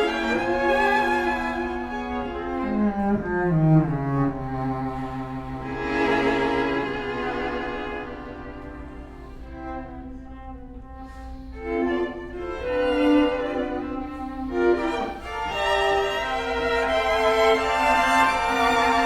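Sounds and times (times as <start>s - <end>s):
classical bowed strings: 0.0s - 19.0s.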